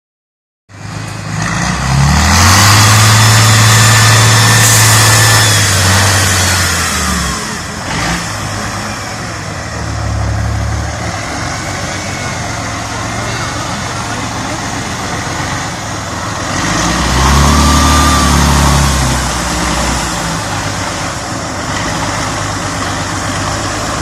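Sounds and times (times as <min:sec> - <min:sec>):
truck engine revving: 0:00.7 - 0:24.0.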